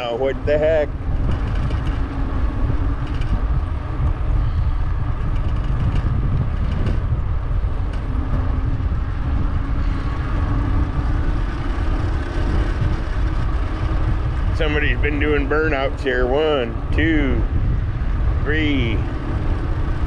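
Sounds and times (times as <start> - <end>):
wind and road rumble: 0.0 - 20.0.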